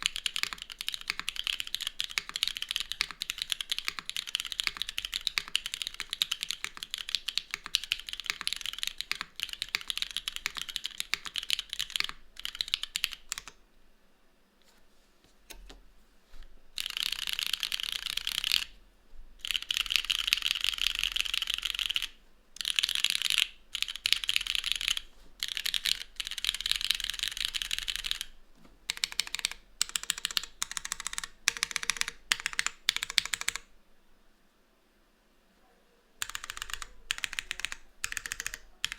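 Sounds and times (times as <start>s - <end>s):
mechanical keyboard typing: 0.0s - 13.6s, 16.8s - 18.8s, 19.4s - 33.7s, 36.2s - 38.9s.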